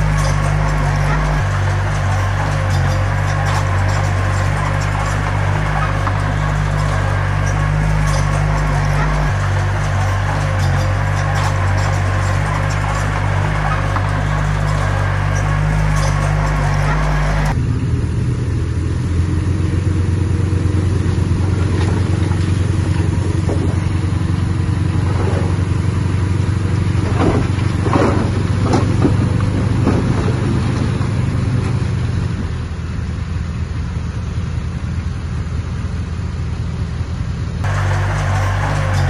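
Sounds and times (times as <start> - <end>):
heavy diesel engine droning: 0.0 - 39.0.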